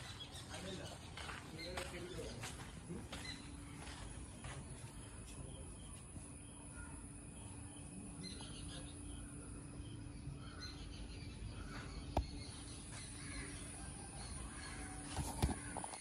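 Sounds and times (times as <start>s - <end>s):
faint steady hum: 0.0s - 16.0s
insect calls: 3.0s - 16.0s.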